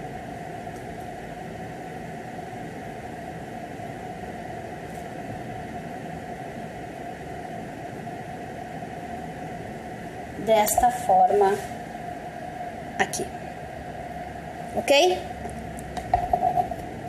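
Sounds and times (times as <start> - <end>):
faint constant hum: 0.0 - 17.0.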